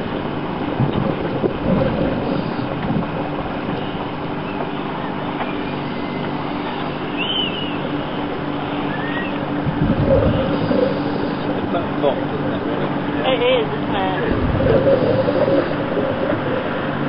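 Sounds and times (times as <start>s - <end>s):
boat engine droning: 0.0s - 17.0s
water noise: 0.0s - 17.0s
wind: 0.0s - 17.0s.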